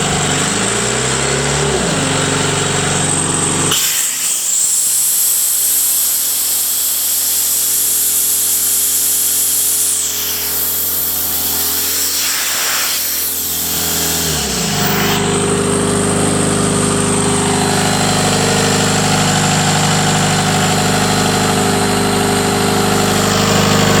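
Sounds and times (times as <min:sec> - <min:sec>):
air compressor engine running: 0:00.0 - 0:24.0.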